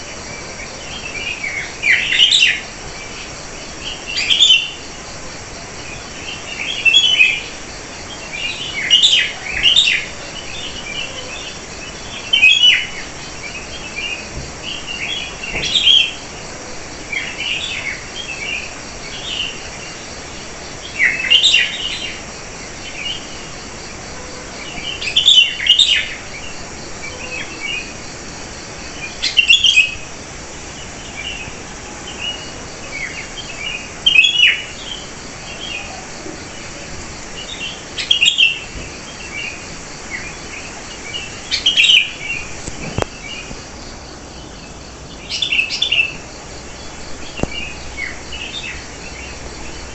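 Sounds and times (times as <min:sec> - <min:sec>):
birds chirping: 0:05.9 - 0:28.0, 0:29.0 - 0:49.9.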